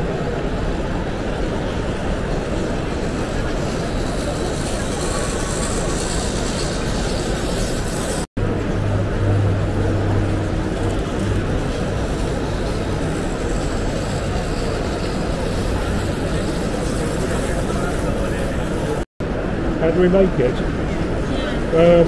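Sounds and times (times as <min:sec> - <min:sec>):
busy exhibition hall noise: 0:00.0 - 0:22.0
low steady hum: 0:01.4 - 0:19.0.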